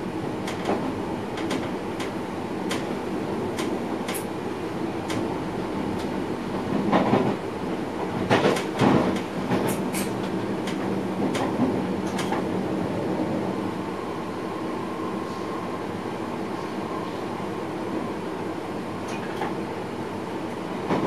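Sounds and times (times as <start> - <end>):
train rumble and hum: 0.0 - 21.0.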